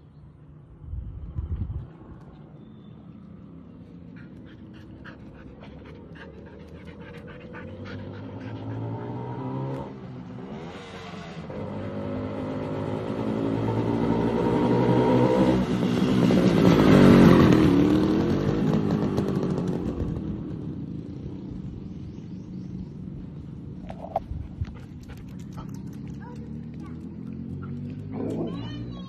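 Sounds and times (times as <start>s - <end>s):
motorcycle engine passing by: 3.3s - 29.0s.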